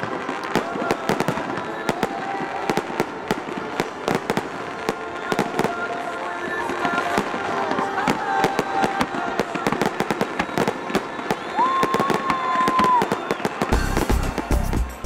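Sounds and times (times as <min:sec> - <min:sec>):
fireworks banging and crackling: 0:00.0 - 0:15.0.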